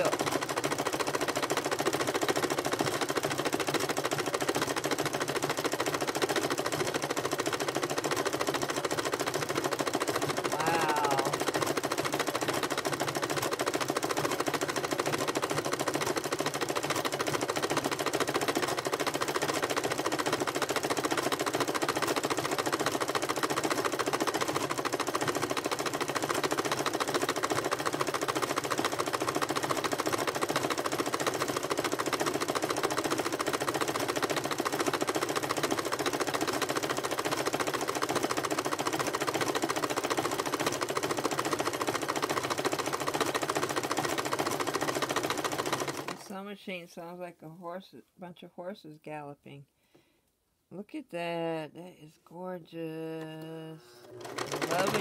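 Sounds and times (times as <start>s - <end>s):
sewing machine clattering: 0.0s - 46.4s, 54.0s - 55.0s.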